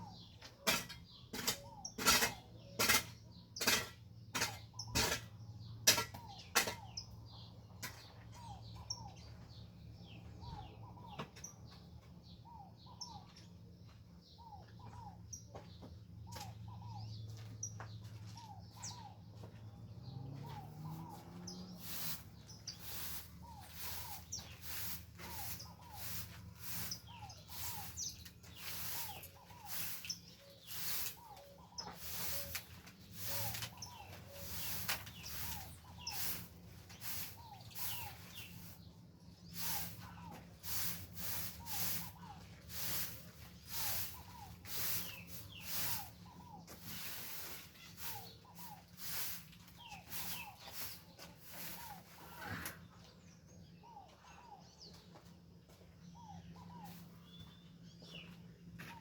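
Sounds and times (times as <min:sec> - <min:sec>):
wild birds calling and singing: 0:00.0 - 0:59.0.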